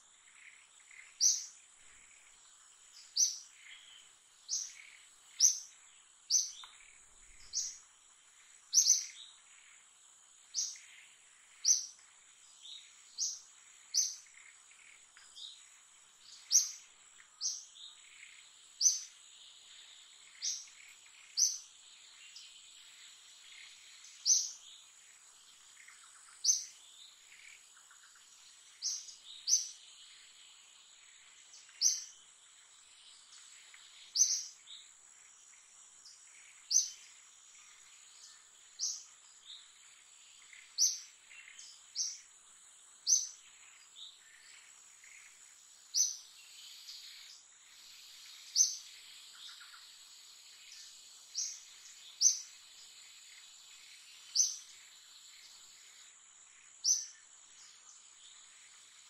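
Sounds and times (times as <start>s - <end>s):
bird chirping: 0.0s - 59.0s
high insect whine: 0.2s - 59.0s.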